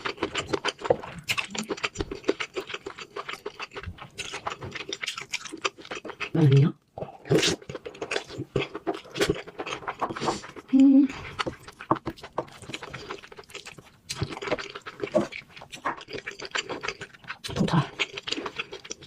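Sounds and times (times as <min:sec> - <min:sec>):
chewing mouth clicks and smacks: 0:00.0 - 0:06.4, 0:07.3 - 0:19.0.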